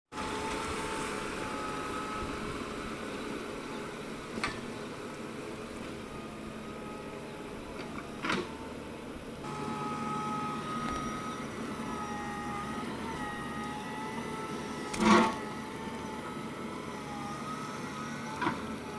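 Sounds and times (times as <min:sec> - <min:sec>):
engine whining hum: 0:00.1 - 0:18.9.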